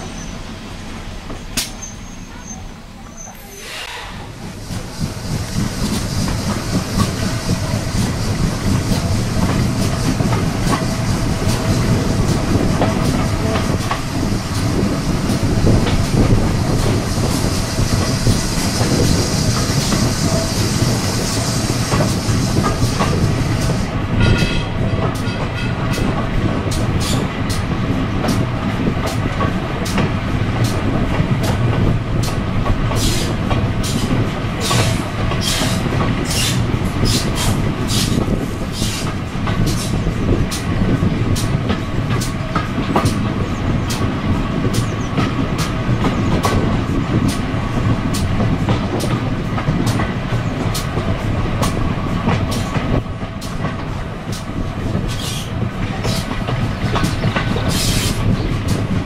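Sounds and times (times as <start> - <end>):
wheels rumbling on rails: 0.0 - 59.0
wind rush: 3.5 - 59.0.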